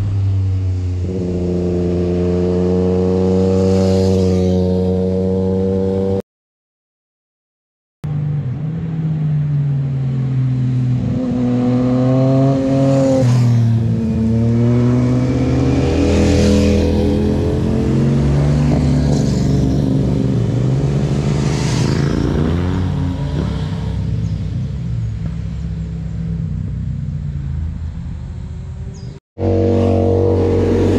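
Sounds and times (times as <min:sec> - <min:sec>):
motorcycles revving and passing: 0:00.0 - 0:06.2, 0:08.1 - 0:30.9.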